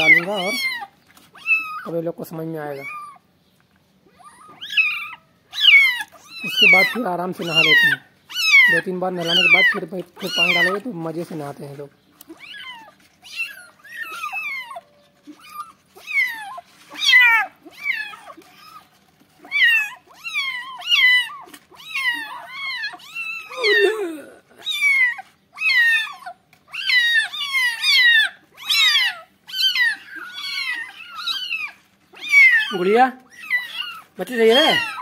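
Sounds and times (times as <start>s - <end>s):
kittens mewing in distress: 0.0s - 3.3s, 4.0s - 11.3s, 12.2s - 35.0s.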